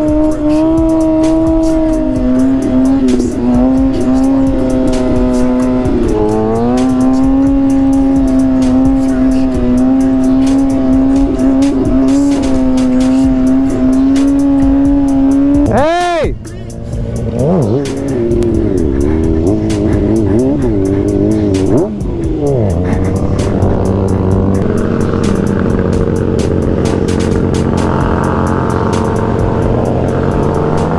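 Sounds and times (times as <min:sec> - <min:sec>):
motorcycle engine cruising: 0:00.0 - 0:30.9.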